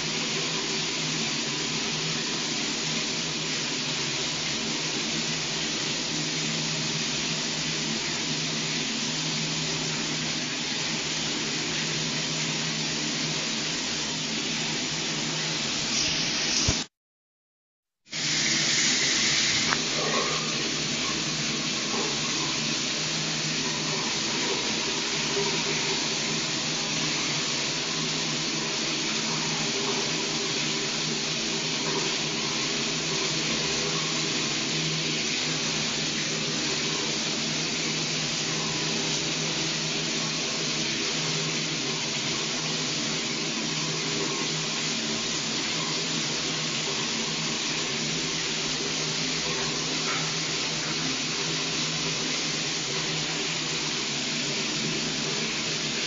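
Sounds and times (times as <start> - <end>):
shower running: 0.0 - 16.9, 18.0 - 56.0.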